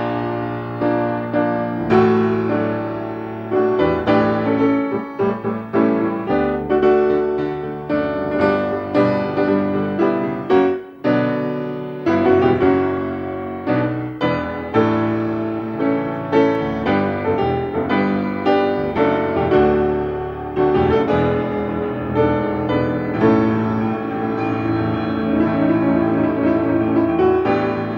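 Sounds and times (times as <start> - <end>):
solo piano music: 0.0 - 27.9.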